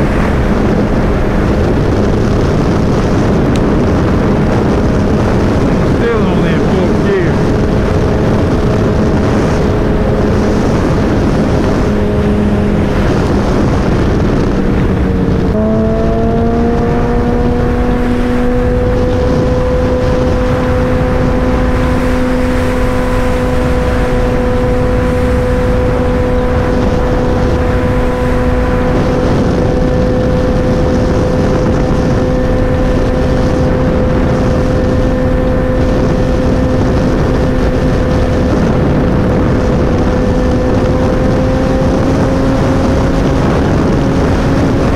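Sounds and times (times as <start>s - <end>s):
motorcycle engine running: 0.0s - 44.9s
wind rush on microphone: 0.0s - 44.9s.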